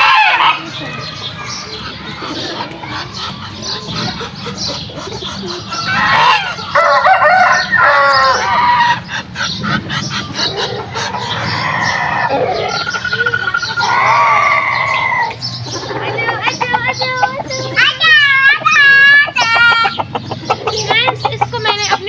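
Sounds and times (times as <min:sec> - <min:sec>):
poultry calling: 0:00.0 - 0:22.0.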